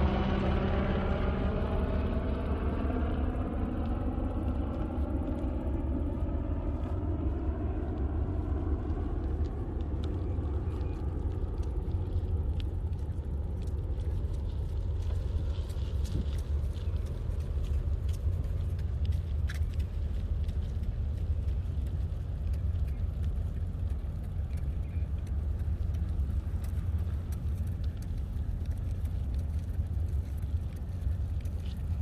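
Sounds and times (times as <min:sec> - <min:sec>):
passing engine drone: 0:00.0 - 0:32.0
wind rumbling on microphone: 0:00.0 - 0:32.0
light scattered ticks: 0:03.7 - 0:32.0.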